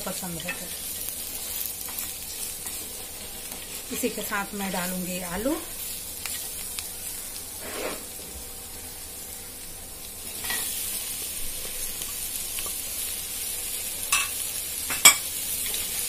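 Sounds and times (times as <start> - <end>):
masala sizzling in a pan: 0.0 - 16.0.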